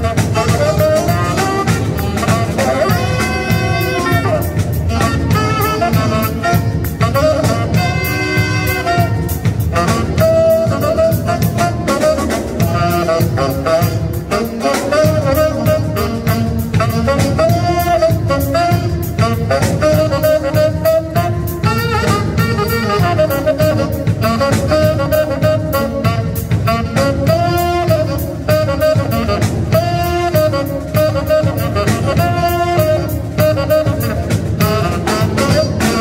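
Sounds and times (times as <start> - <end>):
drum kit with cymbals: 0.0 - 36.0
saxophone melody: 0.0 - 36.0.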